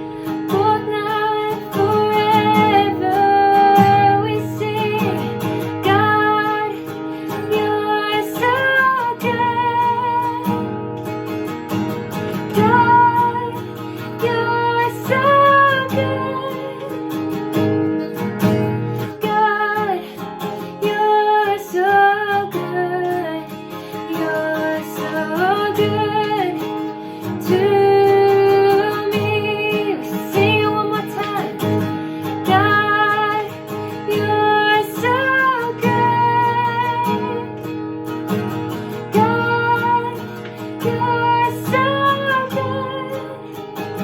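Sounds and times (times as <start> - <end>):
strummed acoustic guitar: 0.0 - 44.0.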